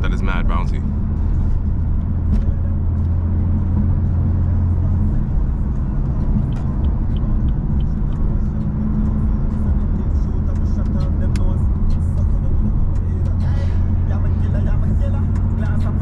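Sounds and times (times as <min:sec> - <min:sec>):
car engine droning: 0:00.0 - 0:16.0
road and tyre noise: 0:00.0 - 0:16.0.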